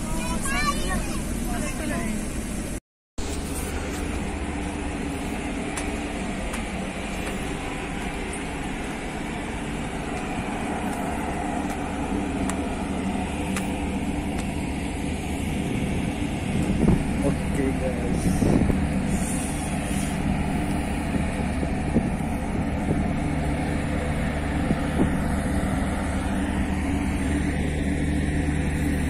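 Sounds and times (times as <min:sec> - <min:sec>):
ferry engines droning: 0:00.0 - 0:29.0.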